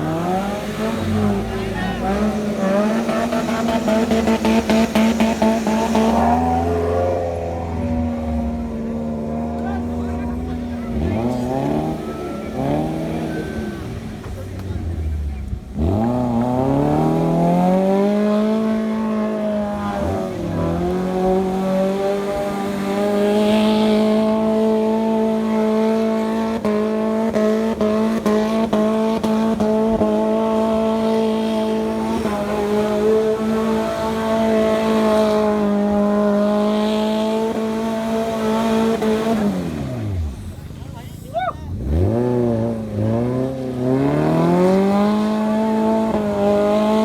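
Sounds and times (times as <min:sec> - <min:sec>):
engine revving: 0:00.0 - 0:41.0, 0:41.7 - 0:47.0.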